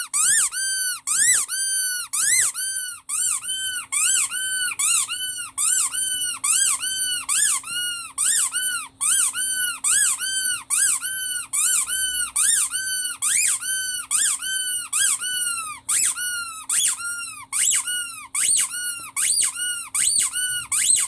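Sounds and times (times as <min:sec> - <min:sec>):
rubber squeaky toy squeaking: 0:00.0 - 0:21.0.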